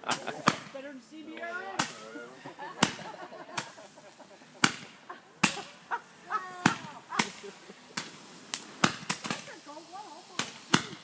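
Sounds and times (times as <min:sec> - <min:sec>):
fireworks cracking: 0:00.0 - 0:11.0.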